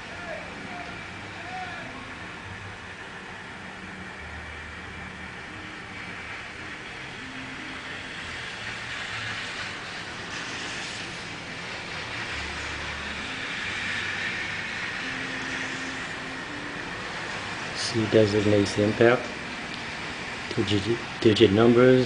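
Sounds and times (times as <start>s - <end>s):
rushing hiss: 0.0s - 22.0s.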